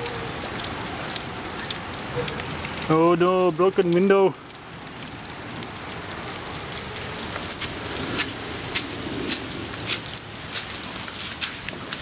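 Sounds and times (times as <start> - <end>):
rain falling: 0.0 - 12.0
sharp drips and taps: 0.0 - 12.0.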